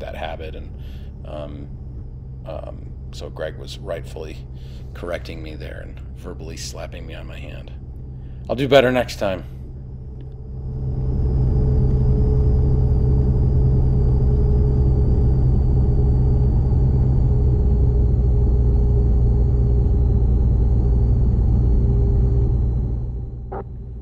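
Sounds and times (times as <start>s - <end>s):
aircraft engine and propeller drone: 0.0s - 24.0s
faint high whine: 0.0s - 24.0s.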